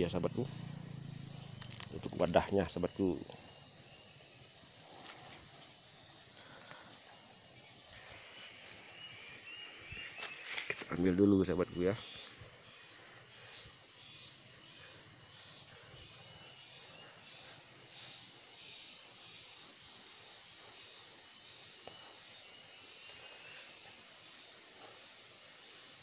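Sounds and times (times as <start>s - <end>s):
insect chorus whining and buzzing: 0.0s - 26.0s.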